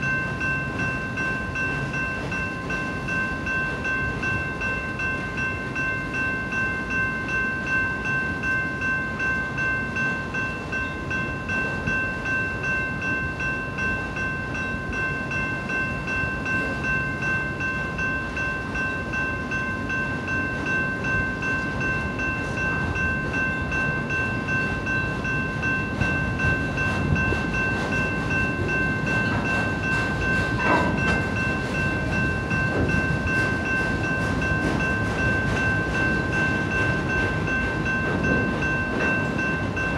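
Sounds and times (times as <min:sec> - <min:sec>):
crossing bell ringing: 0:00.0 - 0:39.9
freight train wheels rumbling: 0:00.0 - 0:39.9.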